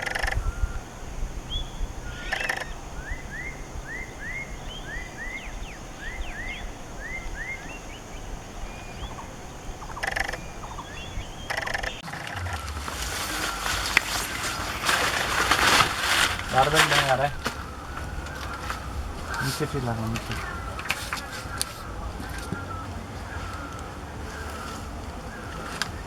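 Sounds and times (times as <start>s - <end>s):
faint bird calls: 0.0s - 26.0s
bird whistling rising notes: 0.4s - 26.0s.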